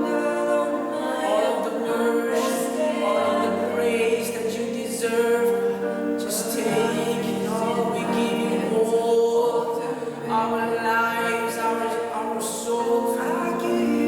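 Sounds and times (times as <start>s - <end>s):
voices singing a worship song: 0.0s - 14.0s.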